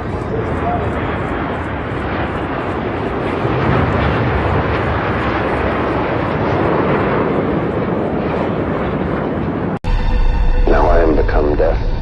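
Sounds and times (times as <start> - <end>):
jet aircraft roaring past: 0.0 - 9.8.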